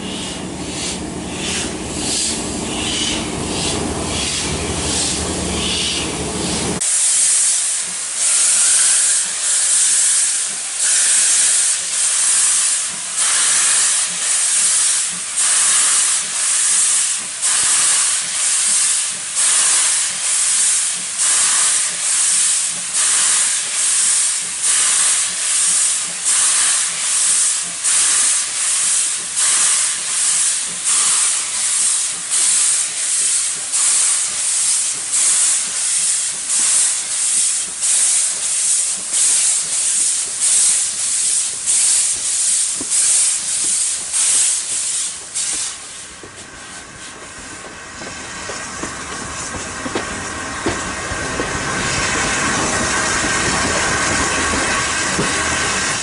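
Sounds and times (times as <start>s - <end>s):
steam locomotive hissing bursts: 0.0s - 56.0s.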